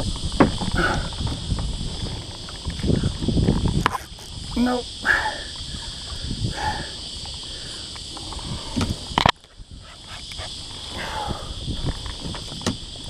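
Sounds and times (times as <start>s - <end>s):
steady high-pitched hum: 0.0s - 13.0s
wind: 0.0s - 13.0s.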